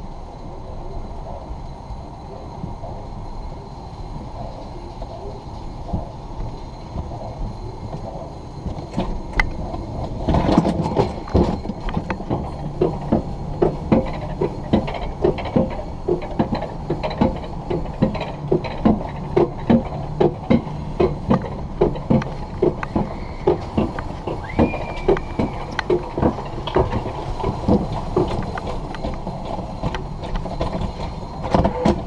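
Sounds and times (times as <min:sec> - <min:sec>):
coaster lift clicking: 0:04.2 - 0:32.0.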